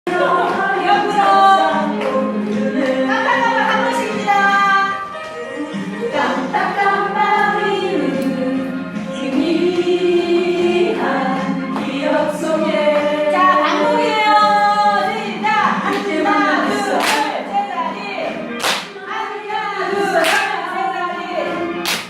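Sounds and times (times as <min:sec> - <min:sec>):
several voices singing long notes: 0:00.1 - 0:21.7.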